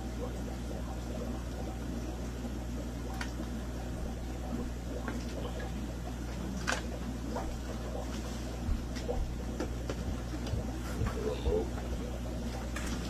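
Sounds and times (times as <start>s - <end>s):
aquarium filter humming: 0.0s - 13.0s
water bubbling: 0.0s - 13.0s.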